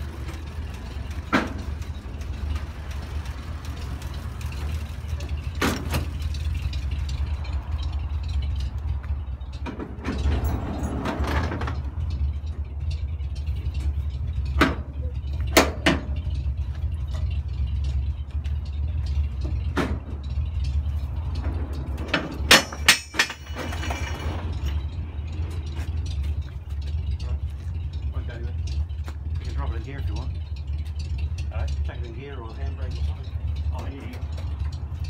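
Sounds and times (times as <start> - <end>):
engine idling: 0.0 - 35.0
metallic clanks of tow gear: 0.1 - 35.0.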